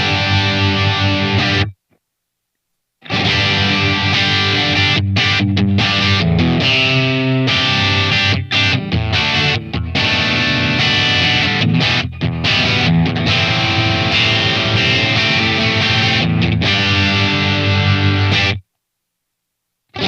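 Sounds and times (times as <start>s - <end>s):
distorted electric guitar: 0.0s - 1.8s, 3.0s - 18.7s.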